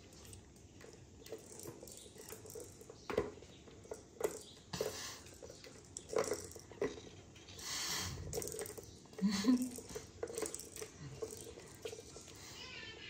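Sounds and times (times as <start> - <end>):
balls rolling in plastic track: 0.0 - 13.0.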